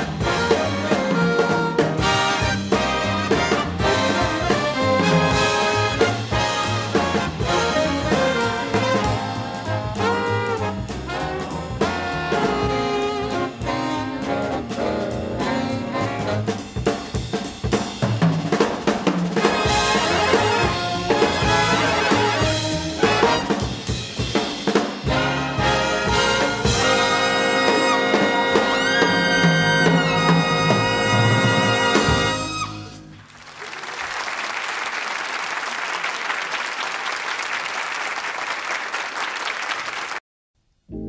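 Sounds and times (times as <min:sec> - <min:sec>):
big band jazz with brass: 0:00.0 - 0:33.2
drum kit: 0:00.0 - 0:33.3.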